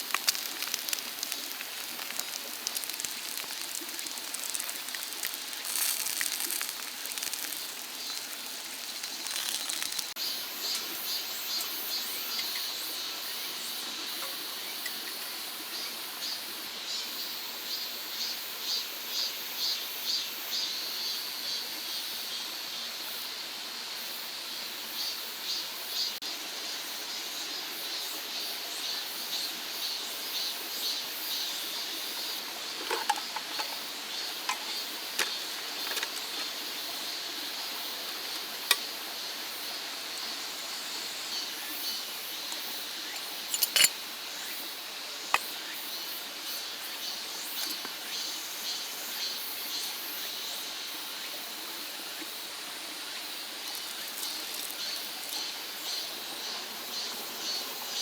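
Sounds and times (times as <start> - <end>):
running stream water: 0.0 - 18.1, 24.6 - 58.0
insects chirping: 0.0 - 22.8, 24.0 - 58.0.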